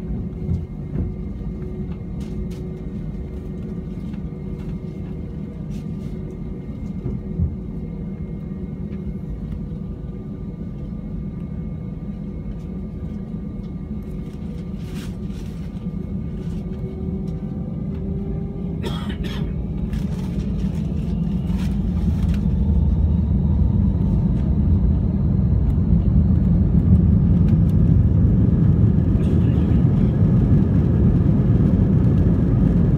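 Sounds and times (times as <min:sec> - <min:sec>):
aircraft engines rumbling: 0:00.0 - 0:32.9.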